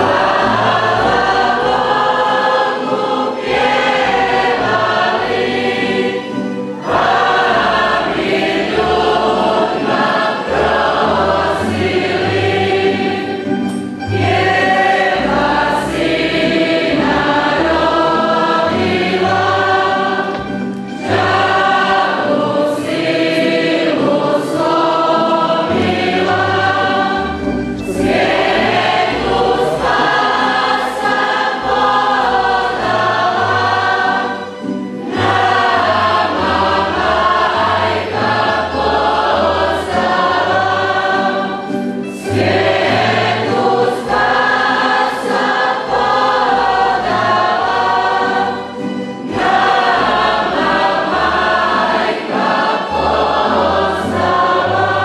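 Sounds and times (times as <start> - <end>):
group singing a carol: 0.0 - 55.0.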